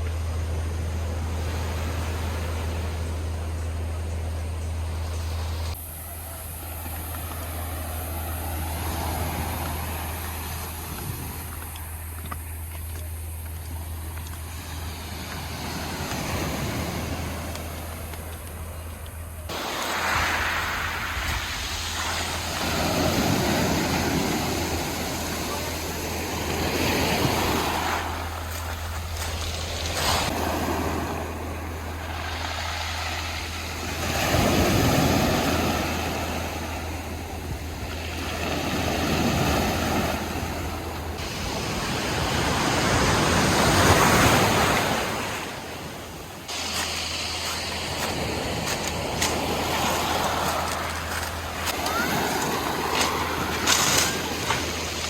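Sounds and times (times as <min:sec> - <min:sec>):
steady low hum: 0:00.0 - 0:55.0
sea waves breaking on beach: 0:05.4 - 0:12.4, 0:14.2 - 0:18.8, 0:19.4 - 0:55.0.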